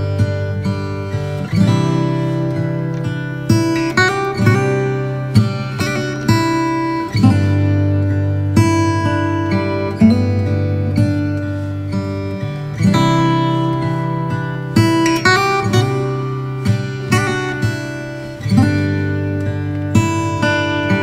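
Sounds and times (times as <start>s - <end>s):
acoustic guitar chords: 0.0s - 21.0s.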